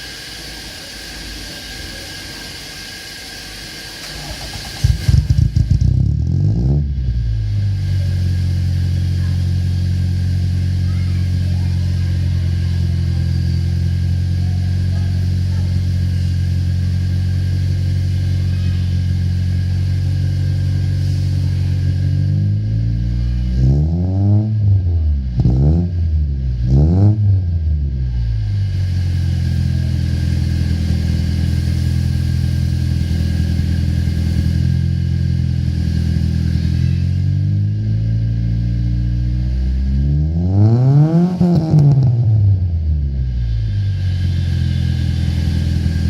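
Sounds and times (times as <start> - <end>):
car engine idling: 0.0 - 46.0
engine revving: 4.0 - 46.0.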